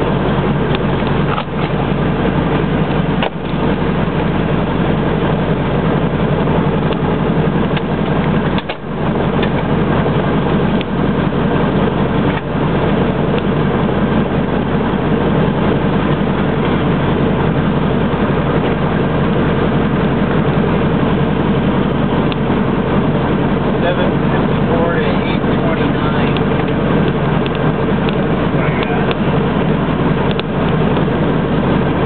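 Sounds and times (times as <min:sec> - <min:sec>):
floatplane engine running: 0:00.0 - 0:32.0.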